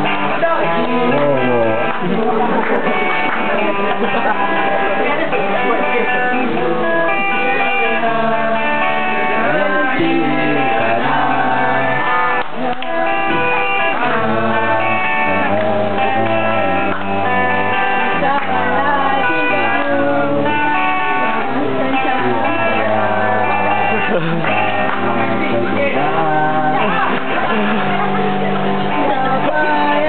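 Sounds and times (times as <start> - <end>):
low bass notes: 0.0 - 30.0
person singing: 0.0 - 30.0
strummed guitars: 0.0 - 30.0.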